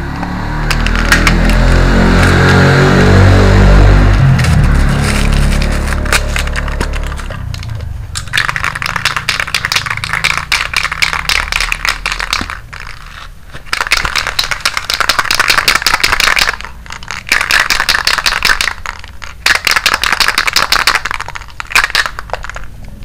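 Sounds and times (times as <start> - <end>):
spray-paint can ball rattling: 0.6 - 3.0, 4.1 - 23.0.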